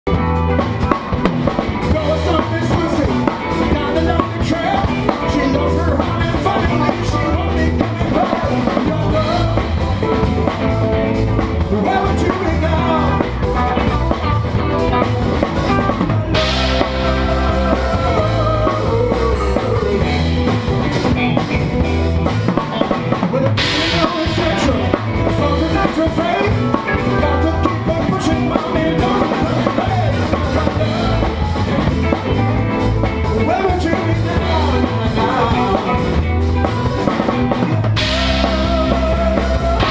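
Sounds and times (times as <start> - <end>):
live rock band playing: 0.0 - 39.9
drum kit played with rods: 0.1 - 39.9.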